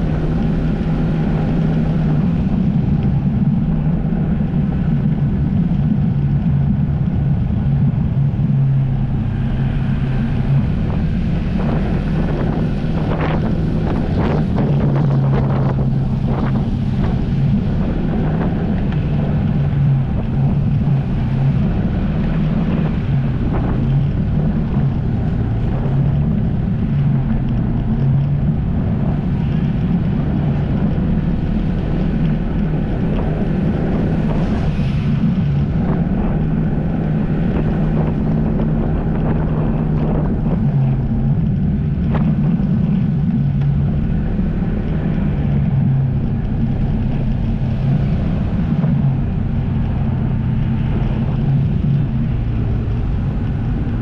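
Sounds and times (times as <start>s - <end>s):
jet ski engine running: 0.0s - 54.0s
wind buffeting microphone: 0.0s - 54.0s.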